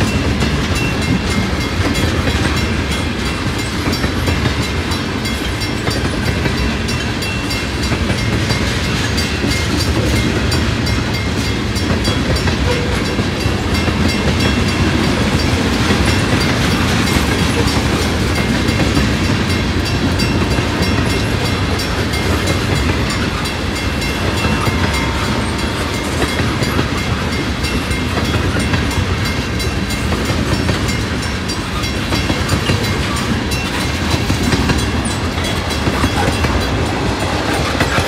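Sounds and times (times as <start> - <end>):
train cars rolling past: 0.0 - 38.0
wheels clicking over rail joints: 0.0 - 38.0.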